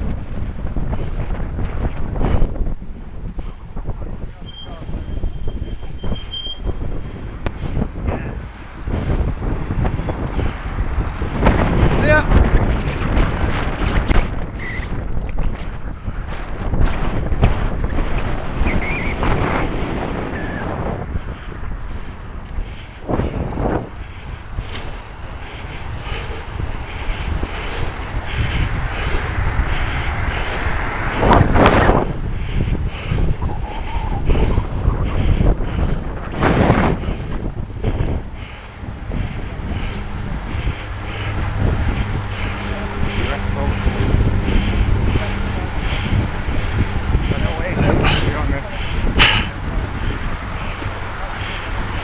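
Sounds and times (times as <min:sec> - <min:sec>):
passing road traffic: 0:00.0 - 0:52.0
wind buffeting microphone: 0:00.0 - 0:52.0.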